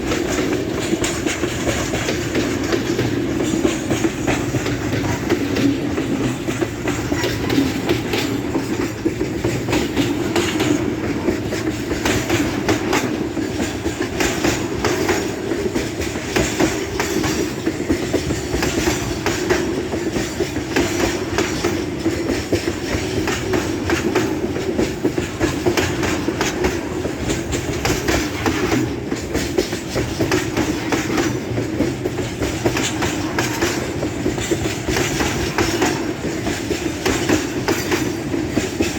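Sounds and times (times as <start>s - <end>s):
train running noise: 0.0s - 38.9s
wagon wheels clicking over rail joints: 0.0s - 38.9s.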